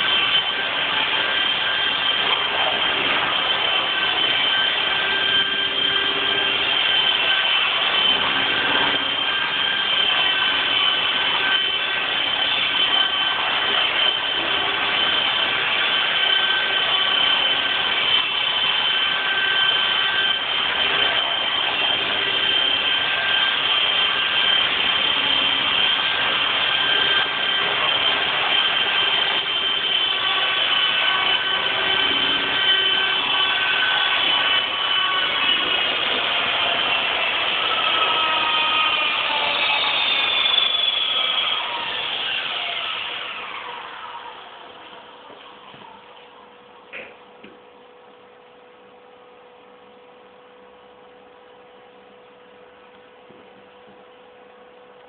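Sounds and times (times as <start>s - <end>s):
model helicopter motor whine: 0.0s - 45.4s
rotor noise: 0.0s - 46.2s.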